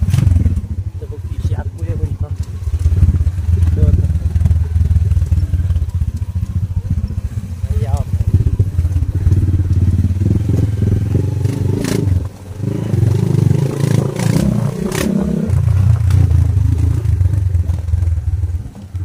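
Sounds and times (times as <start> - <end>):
motorcycle rattling and knocking: 0.0 - 19.0
small motorcycle engine under load: 0.0 - 19.0.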